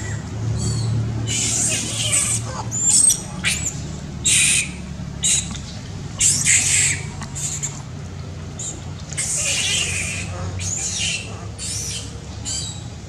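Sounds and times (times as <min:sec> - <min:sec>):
monkeys squealing and screeching: 0:00.0 - 0:05.6, 0:06.2 - 0:07.8, 0:08.6 - 0:12.9
low steady hum: 0:00.0 - 0:13.0.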